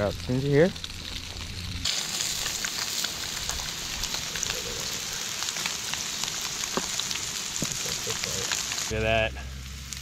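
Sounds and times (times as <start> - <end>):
fish frying in oil: 0.0 - 10.0.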